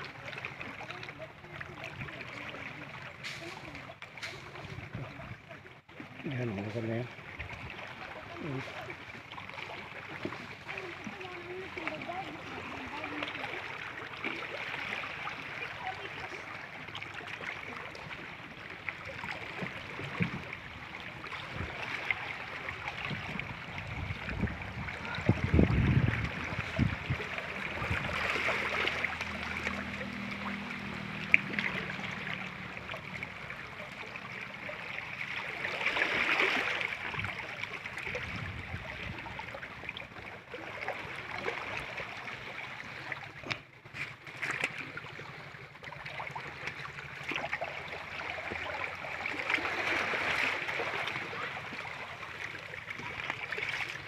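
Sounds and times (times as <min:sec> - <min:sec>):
stream babbling over rocks: 0:00.0 - 0:44.0, 0:45.2 - 0:54.0.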